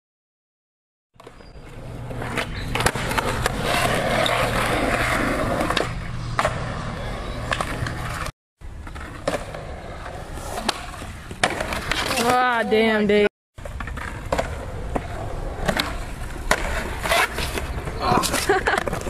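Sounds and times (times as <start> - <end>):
skateboard wheels rolling on concrete: 1.1 - 19.0
skateboard deck clacking: 2.0 - 12.4, 13.6 - 19.0.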